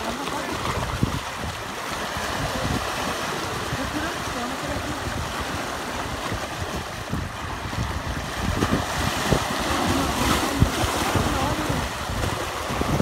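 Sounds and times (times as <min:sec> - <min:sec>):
waves breaking on rocks: 0:00.0 - 0:13.0
wind buffeting microphone: 0:00.0 - 0:13.0.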